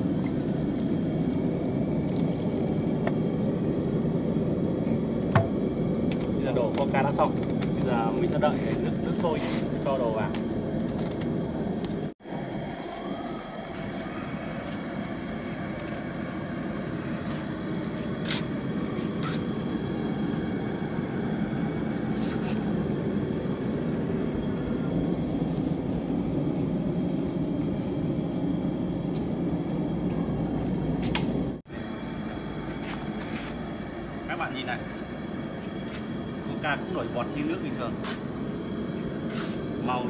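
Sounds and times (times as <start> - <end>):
gas burners roaring: 0.0 - 40.0.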